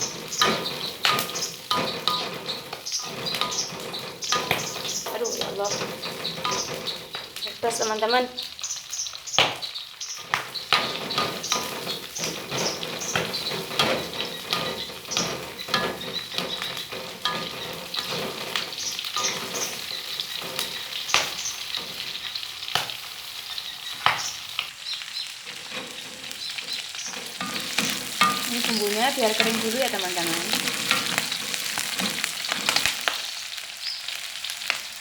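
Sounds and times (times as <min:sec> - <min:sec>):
spatula scraping a pan: 0:00.0 - 0:07.4, 0:10.3 - 0:33.2
vegetables sizzling in hot oil: 0:00.0 - 0:35.0.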